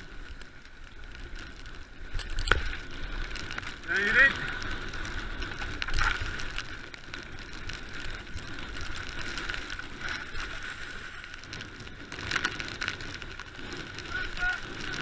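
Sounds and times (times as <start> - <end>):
mountain bike tyres on dirt: 0.0 - 15.0
bike jolting: 1.4 - 15.0.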